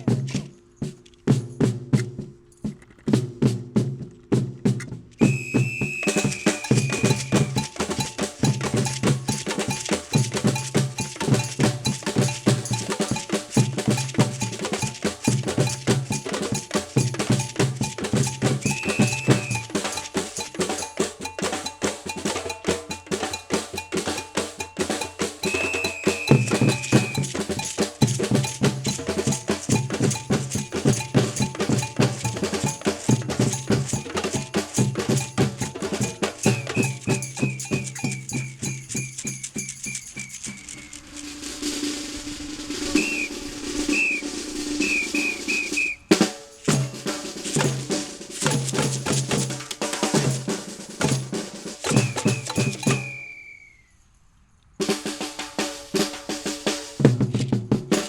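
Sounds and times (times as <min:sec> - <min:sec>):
cowbell pattern: 0:00.0 - 0:02.7, 0:05.2 - 0:41.2, 0:43.0 - 0:53.2
samba drums: 0:00.0 - 0:53.4, 0:54.8 - 0:58.0.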